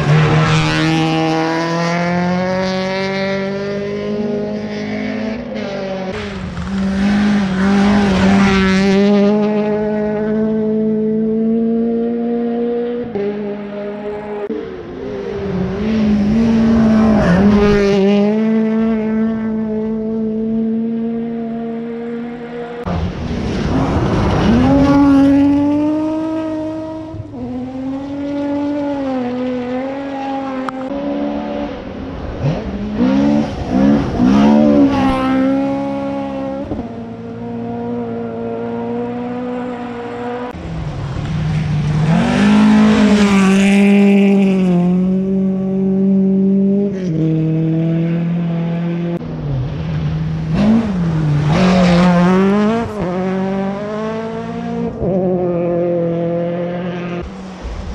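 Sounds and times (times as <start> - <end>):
rally car engines revving: 0.0 - 57.9.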